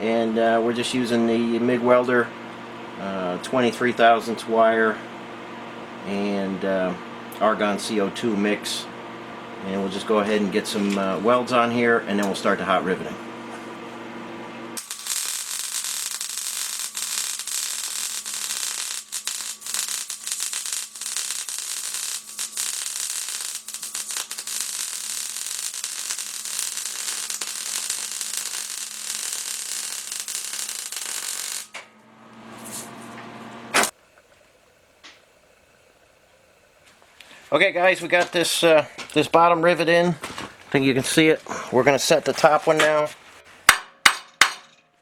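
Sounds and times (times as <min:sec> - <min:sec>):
welder crackling sizzle: 0:00.0 - 0:39.5.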